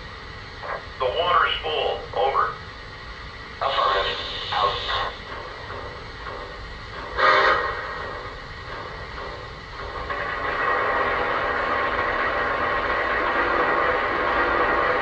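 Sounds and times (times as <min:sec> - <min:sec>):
steam hiss: 0:00.0 - 0:15.0.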